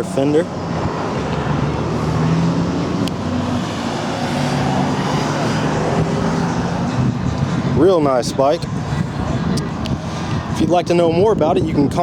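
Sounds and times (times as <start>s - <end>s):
vehicle engine hum: 0.0s - 10.6s.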